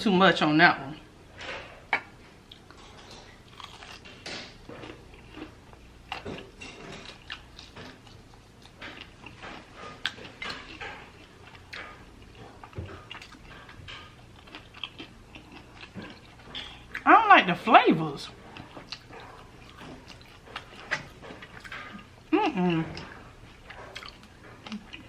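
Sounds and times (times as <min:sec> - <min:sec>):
chewing fried chicken: 0:01.8 - 0:17.1, 0:18.3 - 0:25.0.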